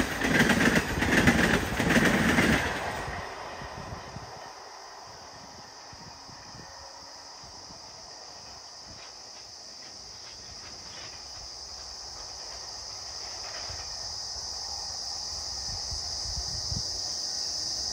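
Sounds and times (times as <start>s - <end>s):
insects buzzing: 0.0s - 17.9s
train rumbling and clattering: 0.0s - 17.9s.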